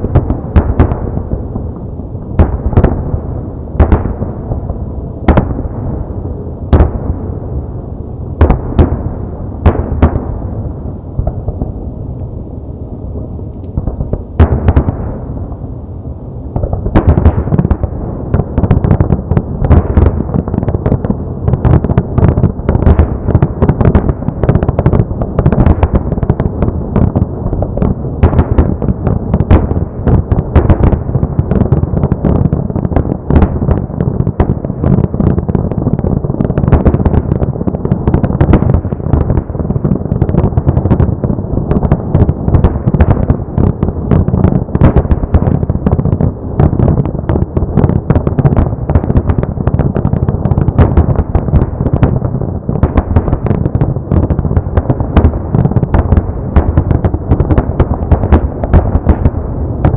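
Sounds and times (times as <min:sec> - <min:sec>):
firework shells booming: 0:00.0 - 0:59.9.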